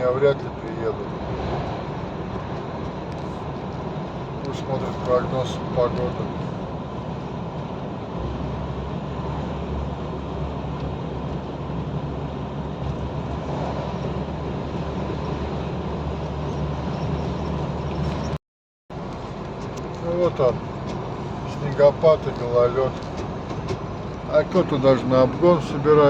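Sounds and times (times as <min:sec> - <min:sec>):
road noise: 0:00.0 - 0:26.0
truck engine drone: 0:00.0 - 0:26.0.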